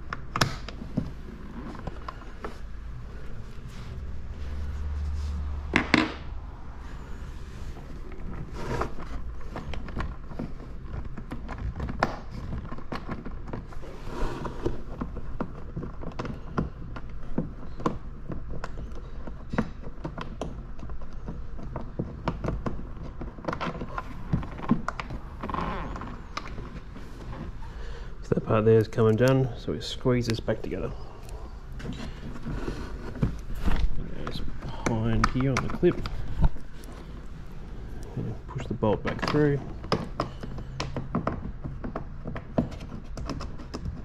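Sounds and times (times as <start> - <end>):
plastic panels clicking and knocking: 0.0 - 2.6, 5.7 - 6.2, 7.8 - 13.8, 14.6 - 28.2, 30.2 - 44.0.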